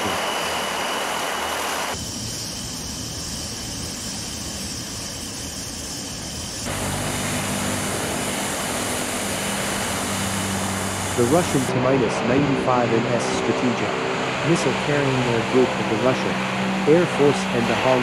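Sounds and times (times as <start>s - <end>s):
steady low hum: 0.0s - 18.0s
turboprop engines droning: 0.0s - 18.0s.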